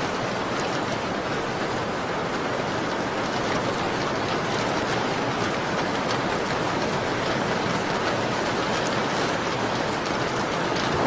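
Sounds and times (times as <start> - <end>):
rain on a window: 0.0 - 11.0.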